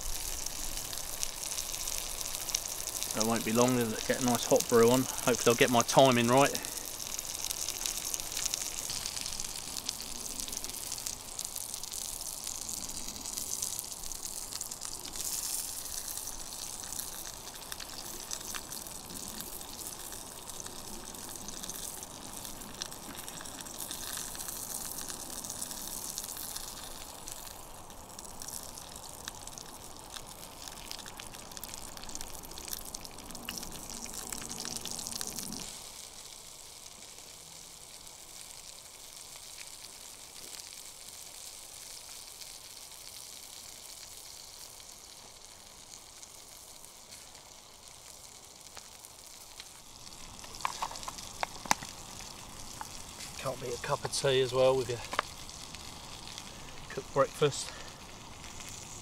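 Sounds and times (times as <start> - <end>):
fire crackling: 0.0 - 59.0
fire roaring through kettle chimney: 0.0 - 59.0.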